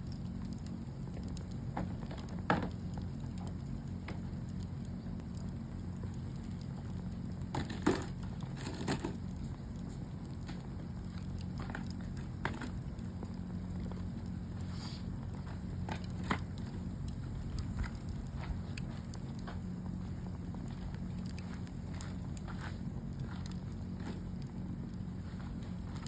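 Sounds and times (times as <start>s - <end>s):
charcoal crackling and popping: 0.0s - 26.0s
steady low hum: 0.0s - 26.0s.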